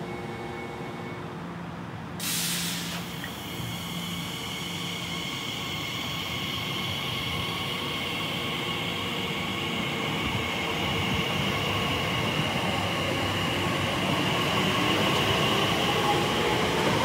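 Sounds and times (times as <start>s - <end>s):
electric train motor whine: 2.9s - 17.0s.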